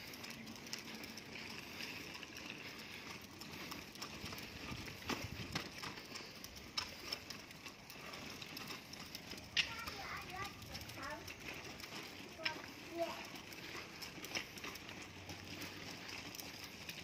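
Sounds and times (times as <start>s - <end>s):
stroller wheels rattling on concrete: 0.0s - 17.0s
footsteps on concrete: 0.7s - 17.0s.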